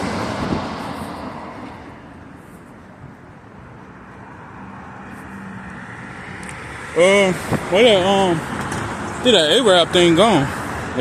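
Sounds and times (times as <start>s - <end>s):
steady traffic noise: 0.0s - 11.0s
vehicle passing: 0.0s - 11.0s.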